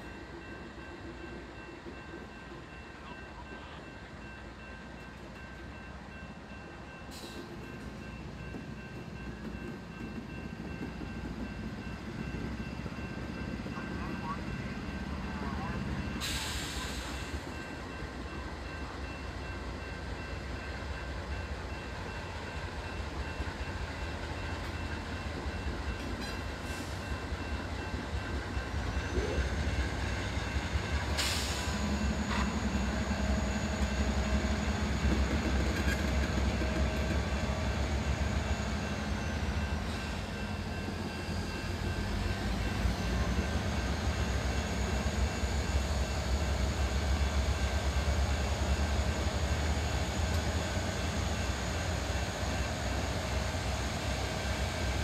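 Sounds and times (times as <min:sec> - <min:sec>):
freight locomotives rumbling past: 0:00.0 - 0:55.0.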